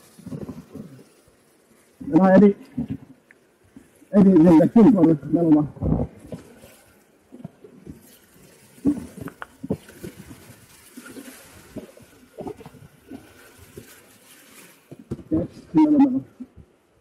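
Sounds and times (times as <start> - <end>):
paddle strokes splashing and knocking: 0.0 - 15.5.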